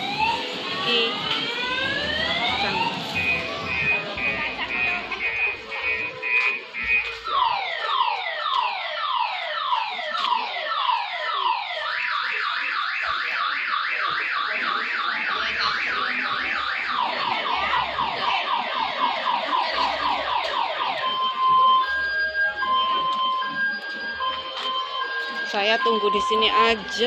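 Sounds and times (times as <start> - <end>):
car alarm siren cycling tones: 0.0 - 27.0.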